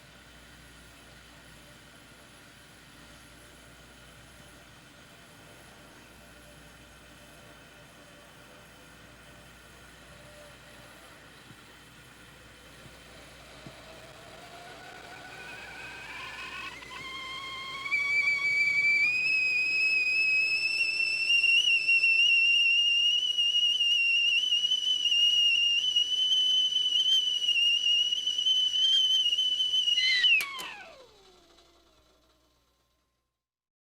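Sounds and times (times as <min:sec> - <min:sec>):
whistling kettle: 0:00.0 - 0:32.9.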